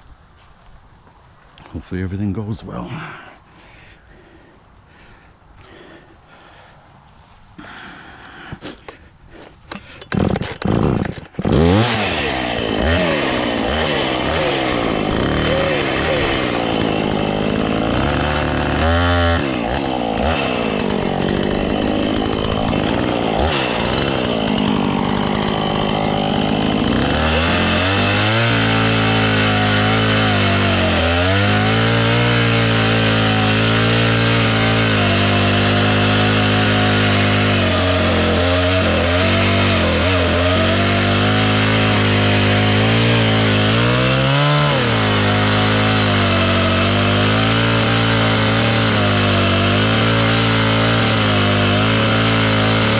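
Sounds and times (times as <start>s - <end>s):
chainsaw cutting wood: 7.6s - 52.9s.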